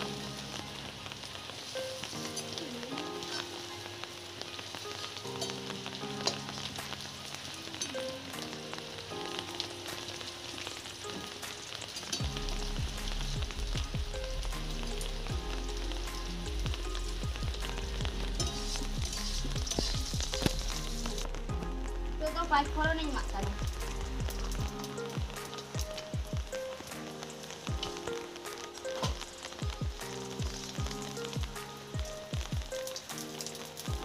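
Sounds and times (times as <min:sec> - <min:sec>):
background music: 0:00.0 - 0:34.0
food sizzling in hot oil: 0:00.0 - 0:34.0.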